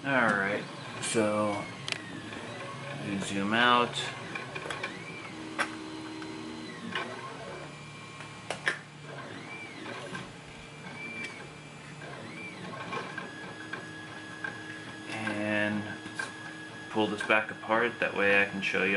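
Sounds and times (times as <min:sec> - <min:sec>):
camera zoom motor whirring: 0:00.6 - 0:18.5.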